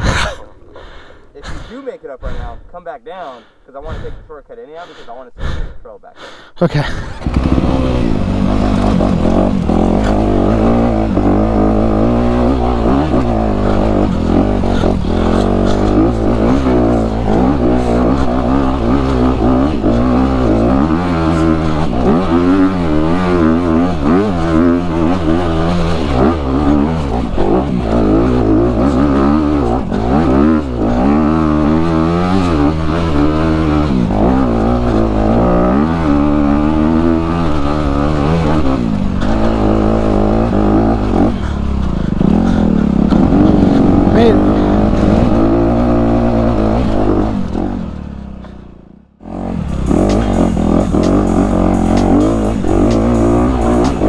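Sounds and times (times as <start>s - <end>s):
dirt bike engine revving: 6.8s - 54.0s.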